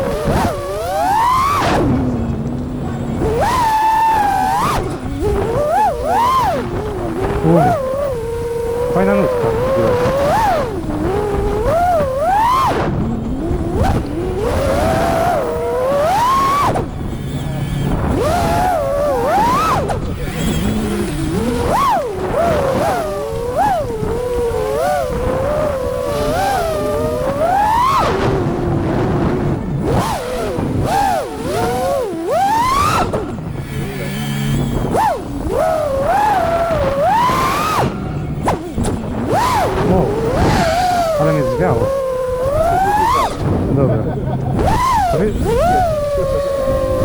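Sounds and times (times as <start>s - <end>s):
quadcopter motors whining: 0.0s - 47.0s.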